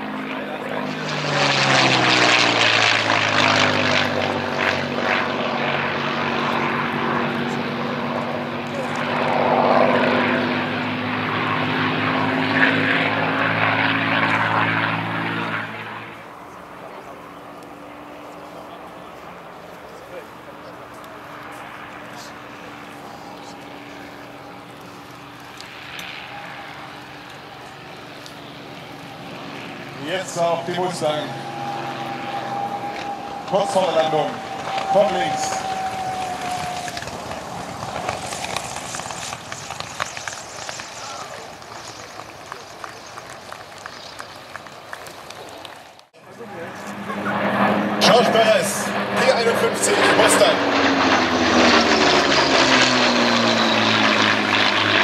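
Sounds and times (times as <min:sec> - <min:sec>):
propeller plane engine flying overhead: 0:00.0 - 0:55.0.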